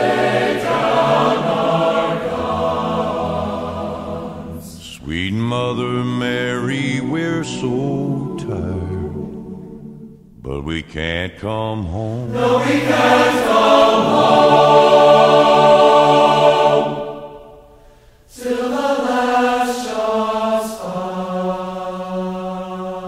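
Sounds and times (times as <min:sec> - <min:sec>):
choir singing held notes: 0:00.0 - 0:10.8, 0:12.2 - 0:23.0.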